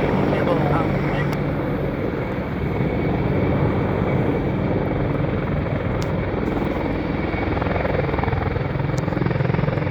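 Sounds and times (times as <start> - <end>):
helicopter rotor chop: 0.0 - 9.9
turbine engine whine: 0.0 - 9.9.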